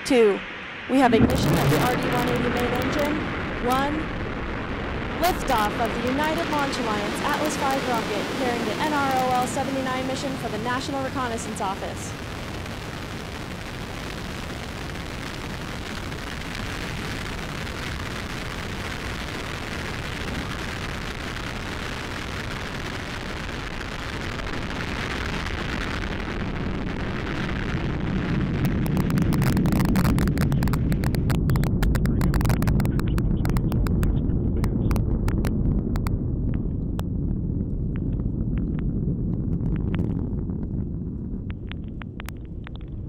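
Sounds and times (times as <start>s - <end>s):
rocket engine thundering: 0.0s - 43.0s.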